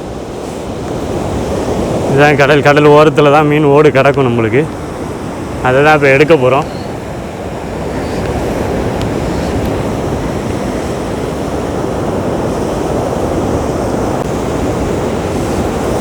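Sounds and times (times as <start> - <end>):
waves breaking on beach: 0.0 - 16.0.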